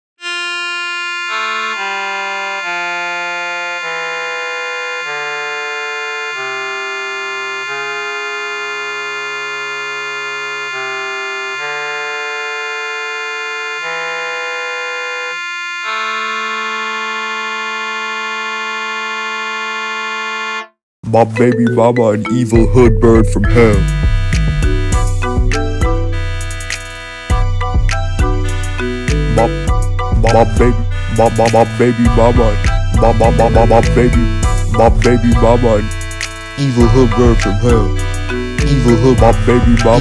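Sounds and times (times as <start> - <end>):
instrumental chords: 0.2 - 19.6, 21.0 - 40.0.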